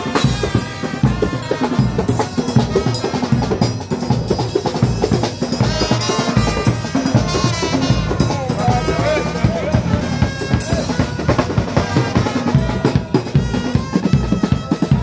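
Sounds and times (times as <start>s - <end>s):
marching band drums: 0.0s - 15.0s
melody over drums: 0.0s - 15.0s.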